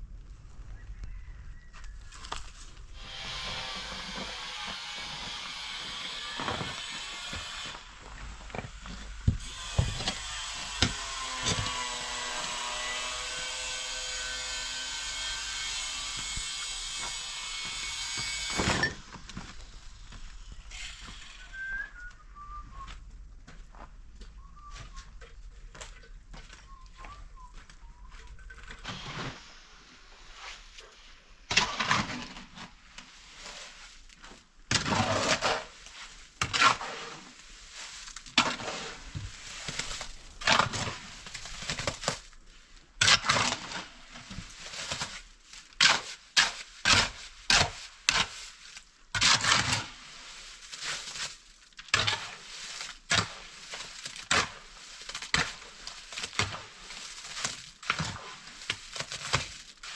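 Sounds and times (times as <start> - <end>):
scraping and crunching strokes: 0.2 - 59.9.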